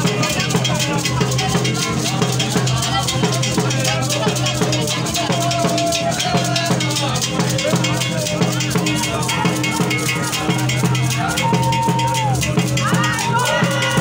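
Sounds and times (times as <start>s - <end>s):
fast percussion music: 0.0s - 14.0s.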